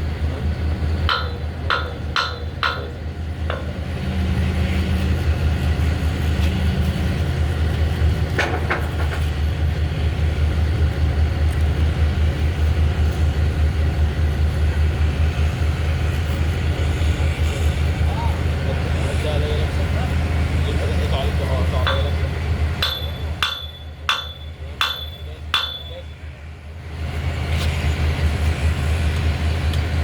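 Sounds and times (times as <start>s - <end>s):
pulsing machine drone: 0.0s - 30.0s.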